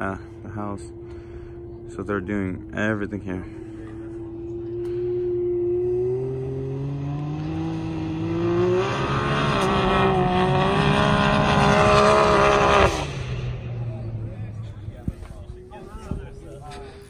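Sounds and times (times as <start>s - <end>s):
vehicle engine revving: 0.0s - 15.7s.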